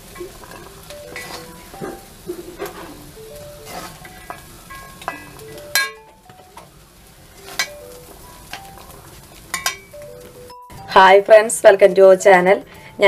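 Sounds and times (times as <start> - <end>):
light background music: 0.0 - 13.0
peas sizzling in oil: 0.0 - 13.0.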